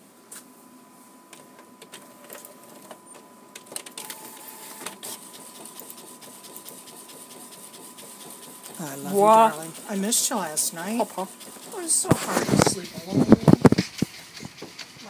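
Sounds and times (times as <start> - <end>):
printer clicks and clatter: 1.4 - 15.0
printer whine: 1.4 - 15.0.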